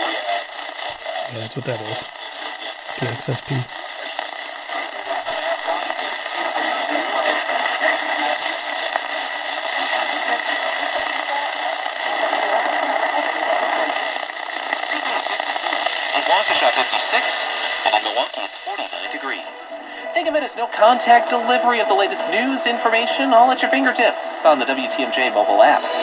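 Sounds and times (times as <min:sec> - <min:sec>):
radio static and hiss: 0:00.0 - 0:21.6
faint radio station audio: 0:00.0 - 0:26.0.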